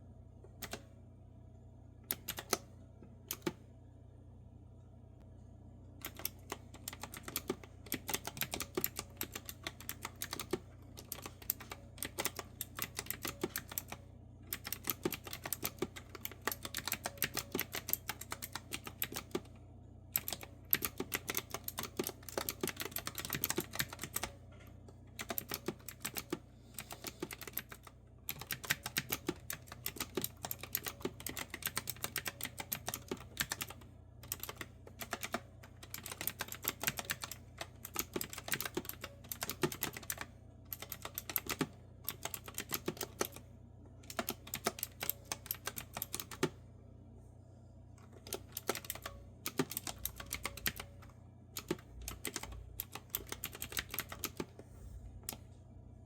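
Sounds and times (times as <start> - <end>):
fast typing on clicky keyboard: 2.1 - 2.6, 3.3 - 3.6, 6.0 - 19.5, 20.2 - 24.3, 25.2 - 46.5, 48.2 - 51.0, 51.6 - 54.5.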